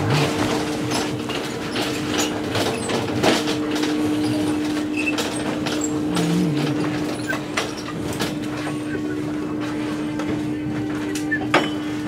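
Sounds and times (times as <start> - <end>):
shopping cart rattling: 0.0 - 12.0
steady low hum: 0.0 - 12.0.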